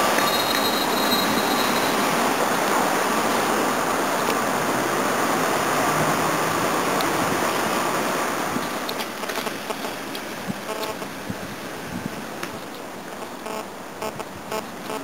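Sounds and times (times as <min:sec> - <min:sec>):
city street traffic roar: 0:00.0 - 0:15.0.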